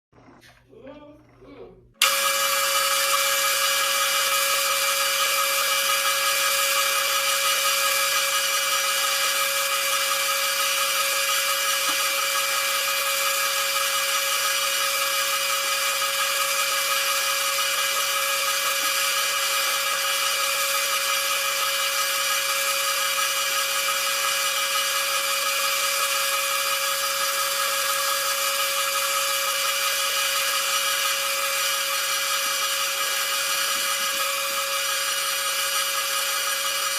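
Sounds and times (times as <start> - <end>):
lathe machine whine: 2.0 - 36.9.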